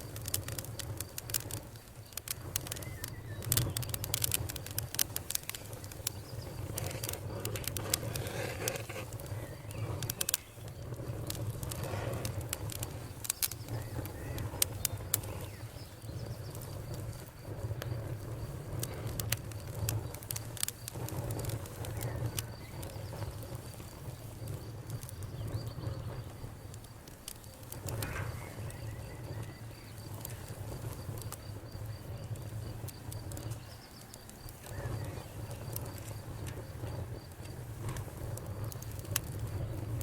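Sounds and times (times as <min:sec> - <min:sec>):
night insects trilling: 0:00.0 - 0:40.0
wood campfire crackling: 0:00.0 - 0:40.0.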